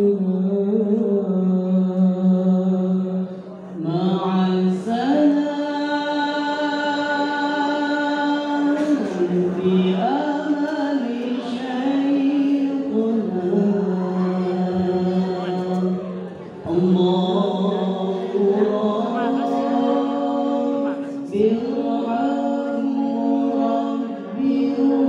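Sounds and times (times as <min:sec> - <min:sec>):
men singing unaccompanied: 0:03.9 - 0:25.0.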